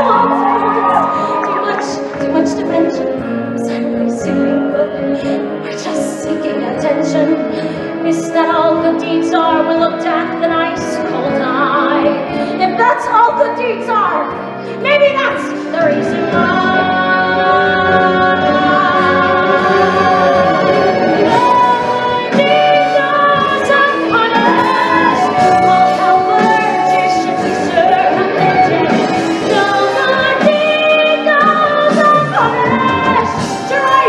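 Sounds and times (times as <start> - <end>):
pit orchestra playing: 0.0 - 34.0.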